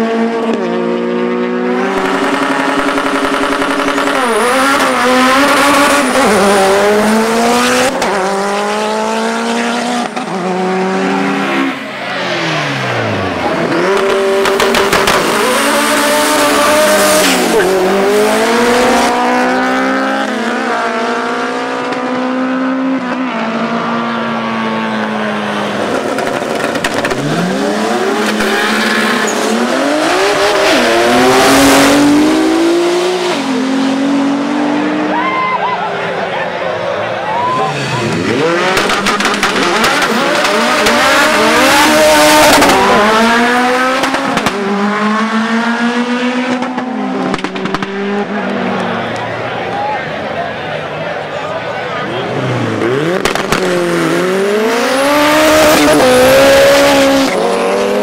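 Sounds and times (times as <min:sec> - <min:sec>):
car engines accelerating hard: 0:00.0 - 0:58.0.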